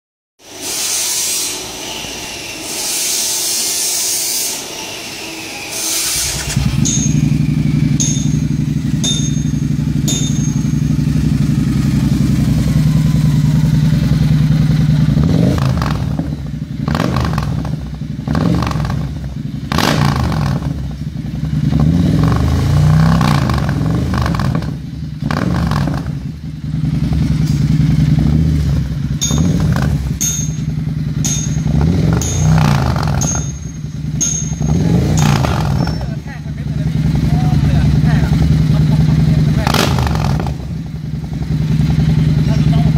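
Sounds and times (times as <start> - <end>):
motorcycle engine idling and revving: 0.4 - 42.9.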